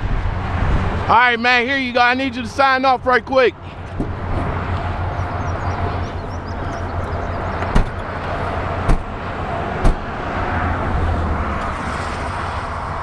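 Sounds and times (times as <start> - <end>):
roadside vehicle noise: 0.0 - 13.0.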